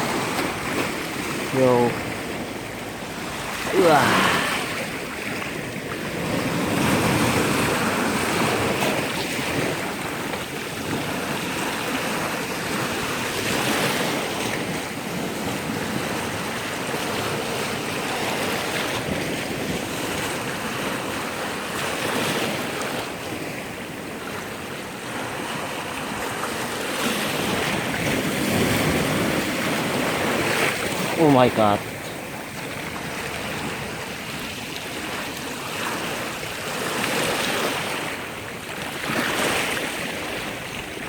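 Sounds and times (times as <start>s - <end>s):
waves breaking on shore: 0.0s - 41.0s.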